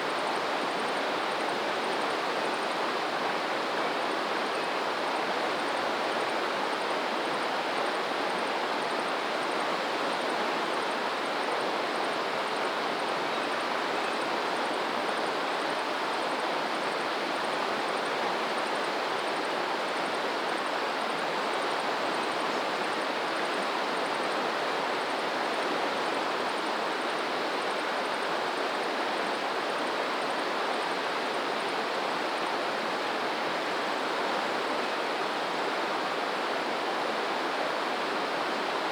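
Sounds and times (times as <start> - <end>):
rushing stream water: 0.0 - 38.9.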